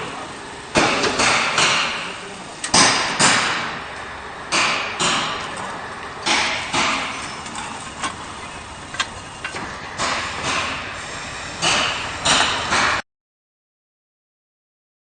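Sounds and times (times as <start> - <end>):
block making machine working: 0.0 - 13.0.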